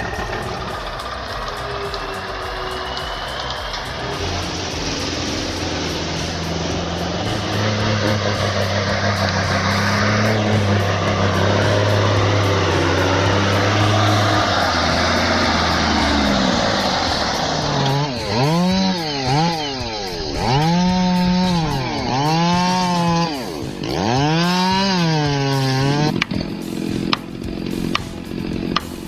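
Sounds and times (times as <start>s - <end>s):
chainsaw revving: 0.0s - 29.0s
low engine sound: 0.0s - 29.0s.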